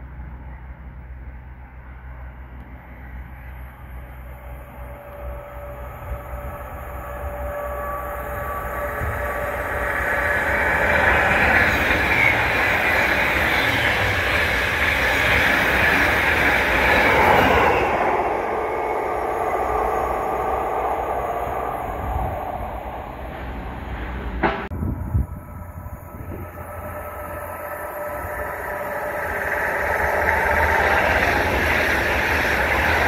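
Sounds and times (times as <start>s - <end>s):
train wheels rushing on rails: 4.4s - 33.0s.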